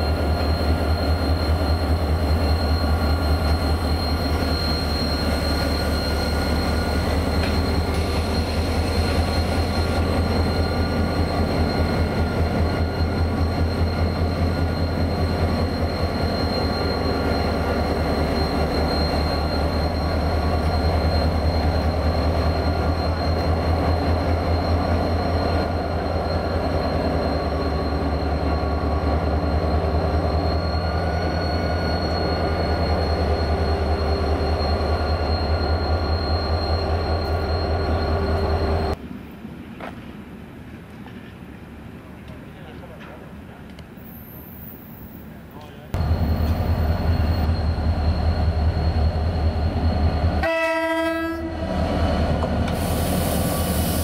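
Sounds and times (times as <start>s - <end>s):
diesel locomotive engine rumbling: 0.0s - 54.0s.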